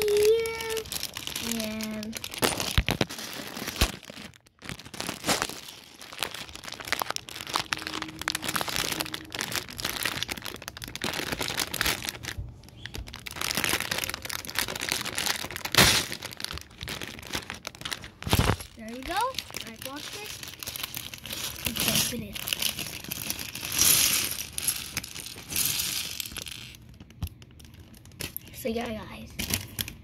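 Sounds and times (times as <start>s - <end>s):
clicks and cracks: 0.0s - 18.8s, 22.4s - 28.4s
plastic crinkling and rustling: 0.0s - 30.0s.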